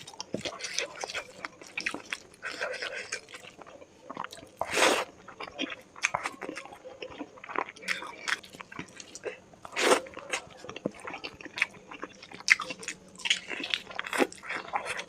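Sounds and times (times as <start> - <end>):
wet chewing and crunching: 0.0 - 15.0.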